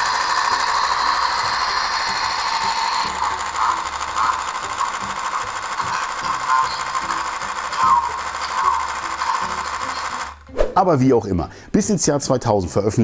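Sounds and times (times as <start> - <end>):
electric buzzing: 0.0 - 10.5.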